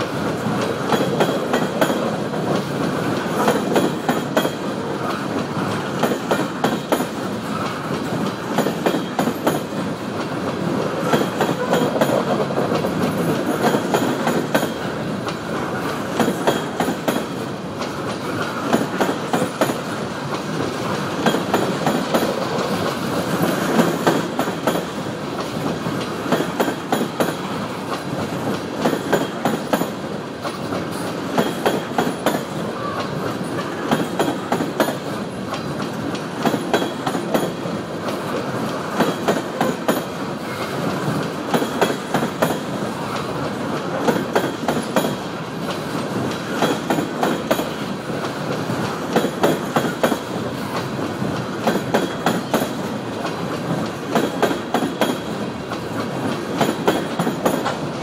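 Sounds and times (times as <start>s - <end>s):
steel wheels rumbling on rail: 0.0s - 58.0s
wheels clicking over rail joints: 0.0s - 58.0s.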